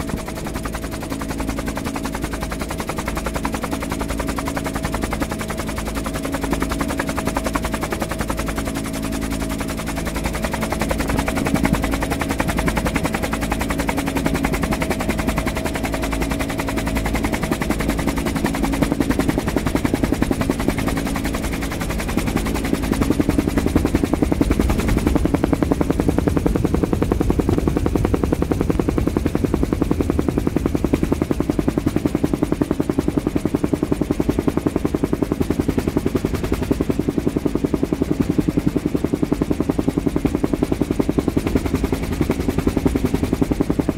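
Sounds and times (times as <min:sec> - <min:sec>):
helicopter engine hum: 0:00.0 - 0:43.9
helicopter rotor beat: 0:00.0 - 0:43.9.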